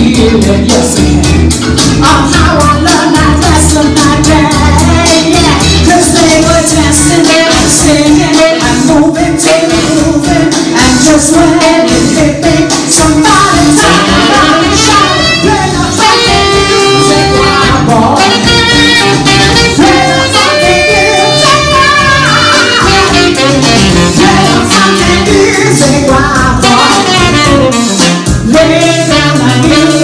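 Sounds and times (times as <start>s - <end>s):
electric guitar: 0.0s - 30.0s
person singing: 0.0s - 30.0s
steady drum beat: 0.0s - 30.0s
saxophone: 2.1s - 30.0s.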